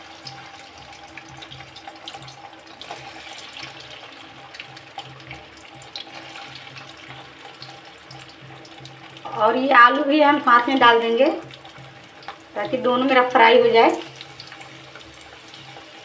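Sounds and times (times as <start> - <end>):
cheese frying in hot oil: 0.0 - 16.0.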